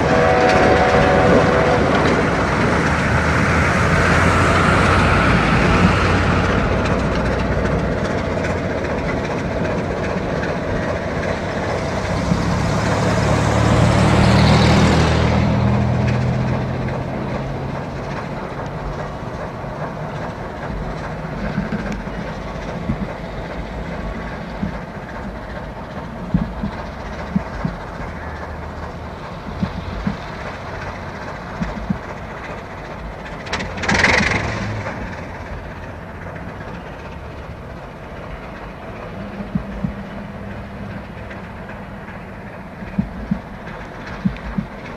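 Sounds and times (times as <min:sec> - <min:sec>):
diesel locomotive engine drone: 0:00.0 - 0:44.9
train wheels clicking: 0:00.0 - 0:44.9.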